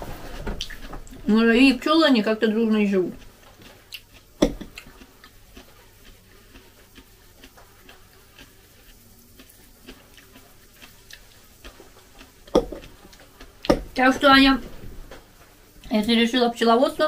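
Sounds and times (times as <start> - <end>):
chewing: 0.2 - 14.0.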